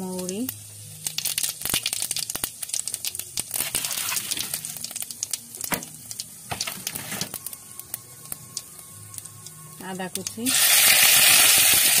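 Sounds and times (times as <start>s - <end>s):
seeds popping in hot oil: 0.0s - 12.0s.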